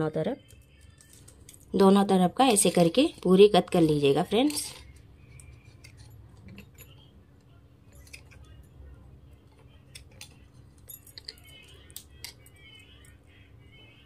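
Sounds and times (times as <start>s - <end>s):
metal bangles clinking: 0.3s - 13.2s.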